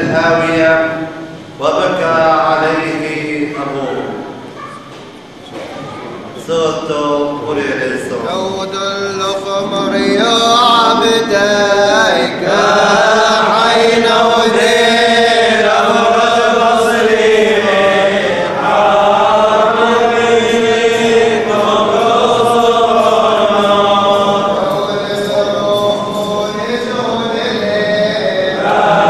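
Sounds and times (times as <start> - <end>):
slow melismatic chant singing: 0.0 - 5.4, 6.0 - 29.0.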